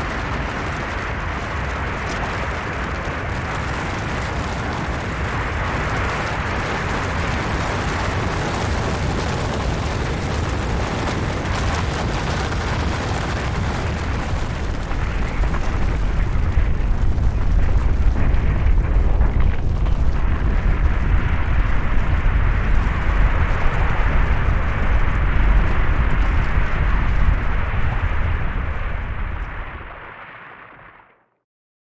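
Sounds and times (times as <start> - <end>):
avalanche rumbling: 0.0 - 31.0.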